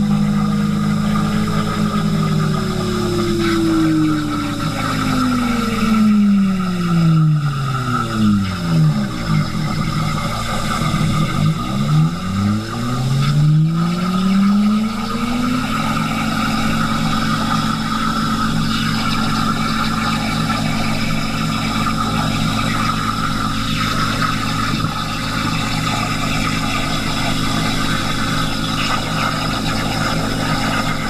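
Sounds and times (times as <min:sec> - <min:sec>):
machine motor whine: 0:00.0 - 0:31.0.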